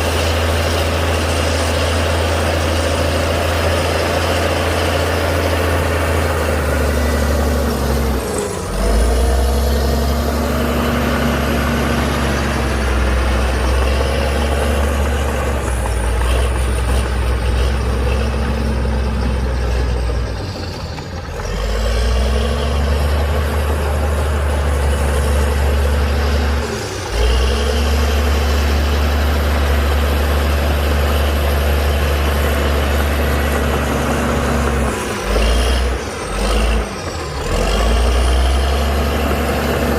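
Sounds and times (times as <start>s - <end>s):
heavy diesel bulldozer engine: 0.0s - 39.9s.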